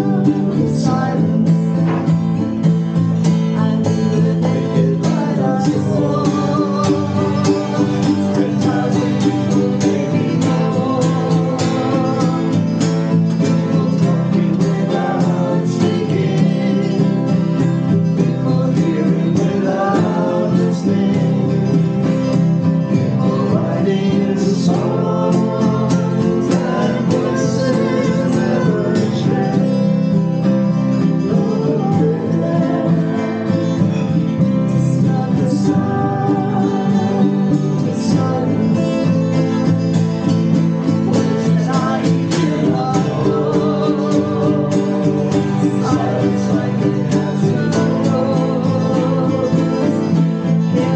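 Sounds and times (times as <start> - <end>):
acoustic country guitar music: 0.0 - 50.9.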